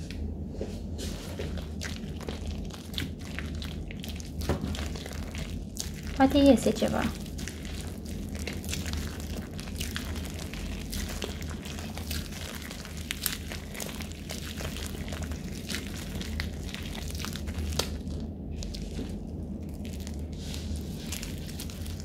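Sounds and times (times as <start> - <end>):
sticky slime crackling and popping: 1.2 - 22.0.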